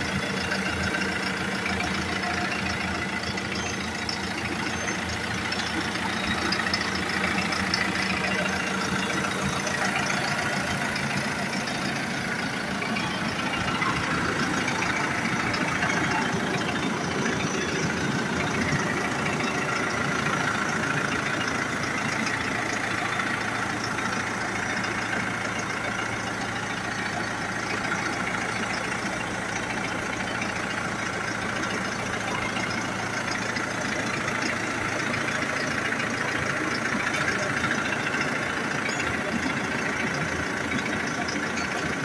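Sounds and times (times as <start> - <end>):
tractor diesel engine idling: 0.0 - 42.0.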